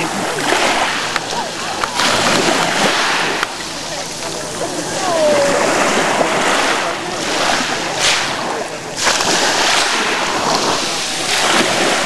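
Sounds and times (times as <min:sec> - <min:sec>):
sea water splashing: 0:00.0 - 0:12.0.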